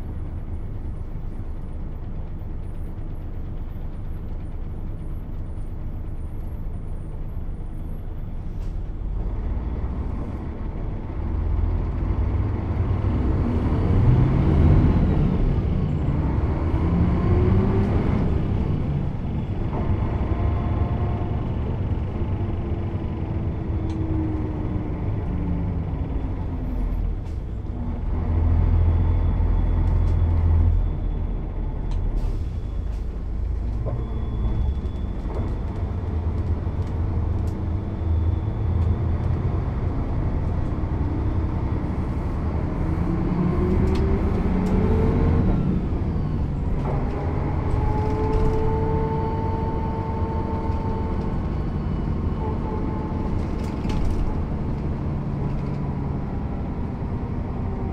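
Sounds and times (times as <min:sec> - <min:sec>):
bus diesel engine running: 0:00.0 - 0:57.9.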